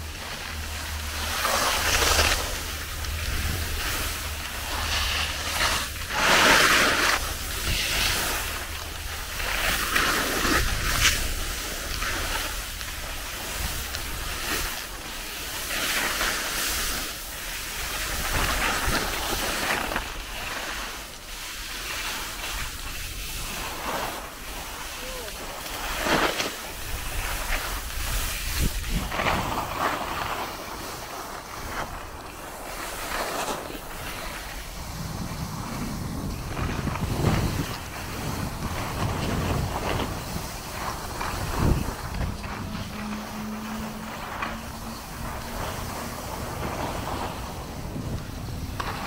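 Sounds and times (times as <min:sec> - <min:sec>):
skis scraping over snow: 0:00.0 - 0:49.0
wind rumble on microphone: 0:00.0 - 0:49.0.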